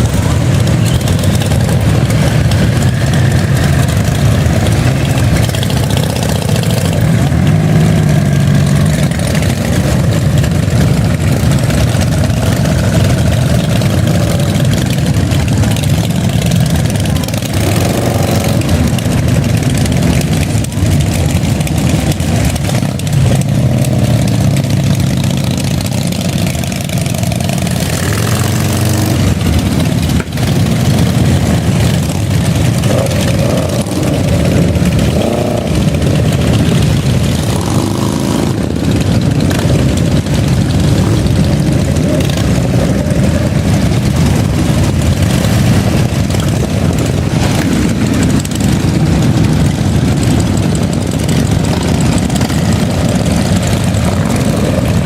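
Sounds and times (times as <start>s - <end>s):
motorcycle engines idling and revving: 0.0s - 55.0s.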